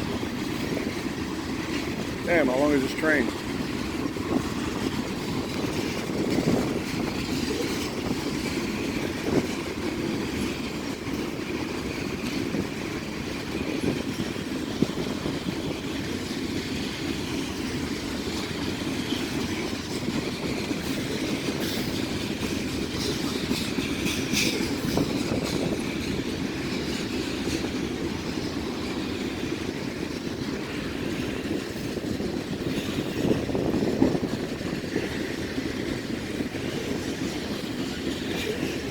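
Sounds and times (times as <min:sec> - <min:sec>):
freight train rumbling over bridge: 0:00.0 - 0:38.9
train wheel clatter: 0:00.0 - 0:38.9.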